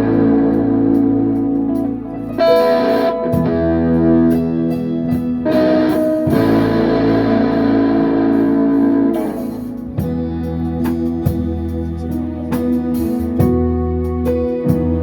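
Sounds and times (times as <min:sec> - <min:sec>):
guitar playing chords: 0:00.0 - 0:15.0.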